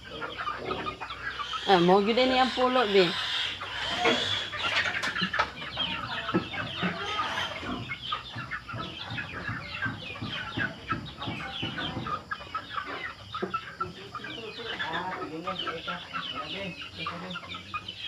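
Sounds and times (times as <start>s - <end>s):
chicks peeping and clucking: 0.0s - 18.0s.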